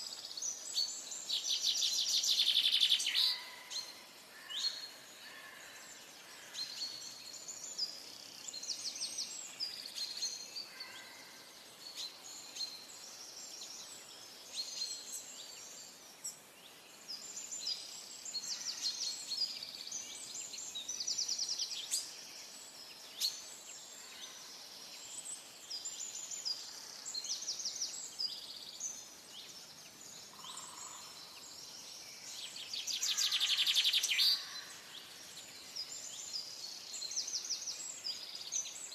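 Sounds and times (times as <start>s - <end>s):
faint stream hiss: 0.0s - 38.9s
songbirds chirping and trilling: 0.0s - 38.9s.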